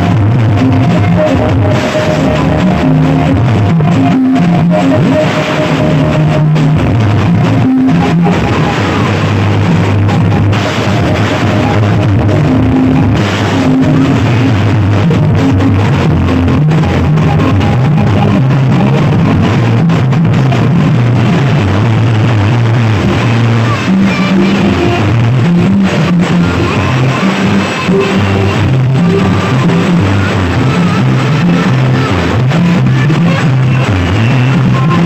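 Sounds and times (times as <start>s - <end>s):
loud music with drums and guitar: 0.0s - 35.0s.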